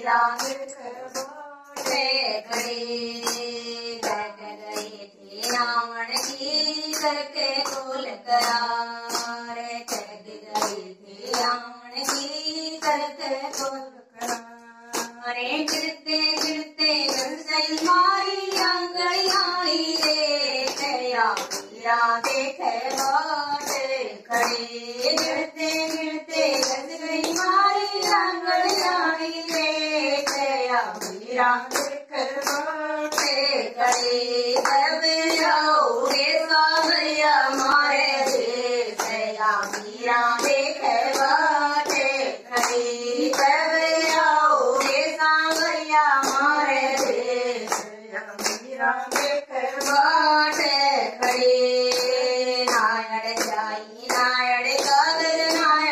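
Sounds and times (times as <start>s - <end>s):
hand claps: 0.0s - 55.9s
women singing devotional song: 0.0s - 55.9s.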